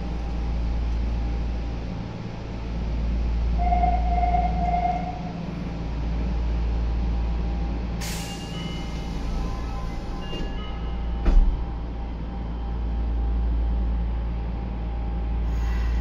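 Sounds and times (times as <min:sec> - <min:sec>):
train rumble from inside car: 0:00.0 - 0:16.0.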